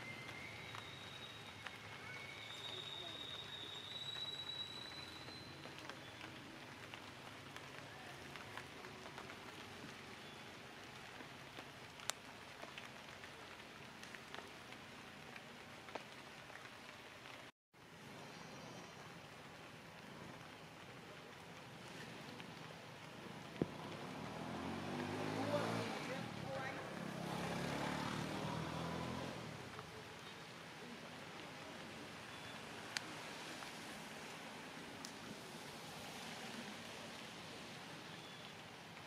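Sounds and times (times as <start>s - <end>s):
water dripping through leaves: 0.0s - 39.0s.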